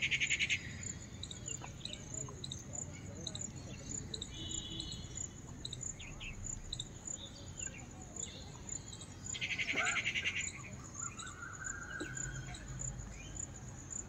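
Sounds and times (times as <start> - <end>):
bird chirps: 0.0 - 13.5
insects chirring: 0.0 - 14.0.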